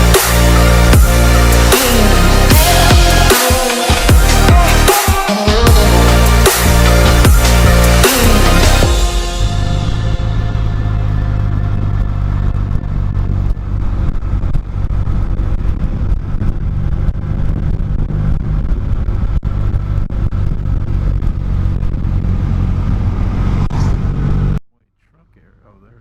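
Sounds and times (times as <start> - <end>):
motorcycle engine running: 0.0 - 3.4, 5.6 - 24.6
road noise: 0.0 - 5.0, 5.6 - 24.6.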